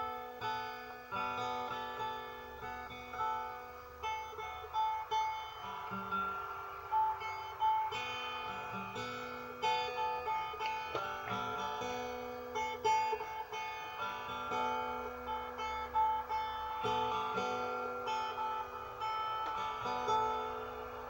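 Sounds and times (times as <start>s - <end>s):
plucked folk guitar: 0.0s - 21.0s.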